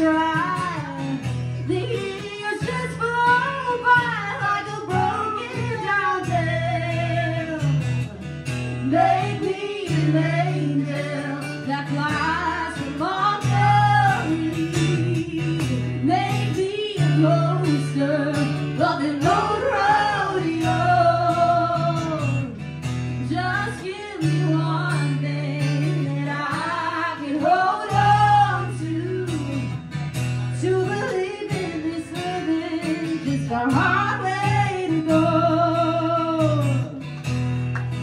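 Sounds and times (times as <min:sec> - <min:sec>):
woman singing: 0:00.0 - 0:08.1, 0:08.8 - 0:29.9, 0:30.5 - 0:37.0
strummed acoustic guitar: 0:00.0 - 0:38.0.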